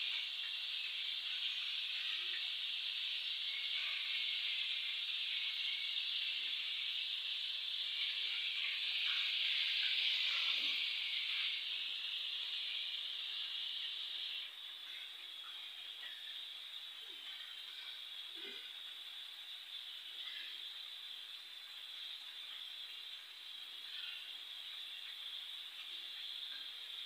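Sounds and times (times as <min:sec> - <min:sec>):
chicken deep-frying in oil: 0:00.0 - 0:27.0.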